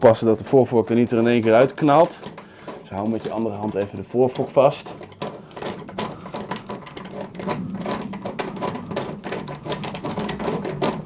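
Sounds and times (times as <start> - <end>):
metallic clicking and rattling: 0.0 - 11.0.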